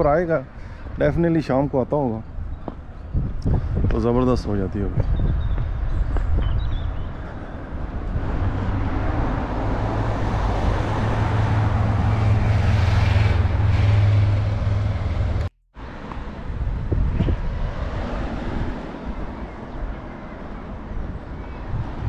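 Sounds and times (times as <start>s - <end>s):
quiet street noise: 0.0s - 22.0s.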